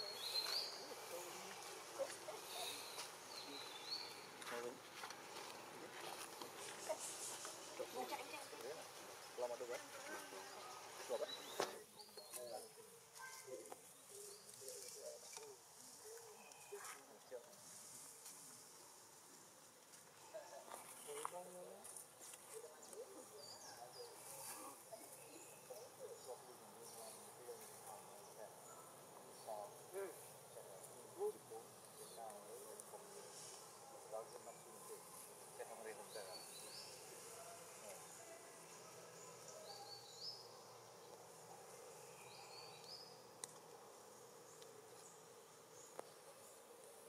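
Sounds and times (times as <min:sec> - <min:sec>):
insect-like background hum: 0:00.0 - 0:47.0.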